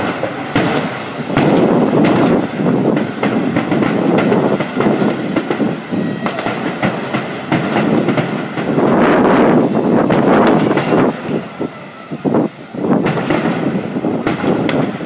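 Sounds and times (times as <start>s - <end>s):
continuous rumble: 0.0s - 15.0s
fireworks bangs and crackles: 0.0s - 15.0s.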